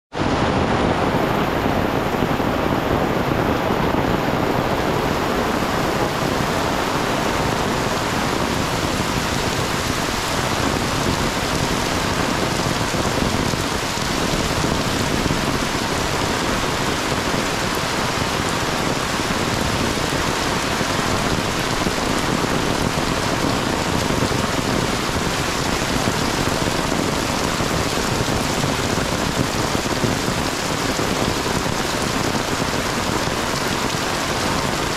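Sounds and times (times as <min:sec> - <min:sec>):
heavy rain on trees and leaves: 0:00.1 - 0:34.9.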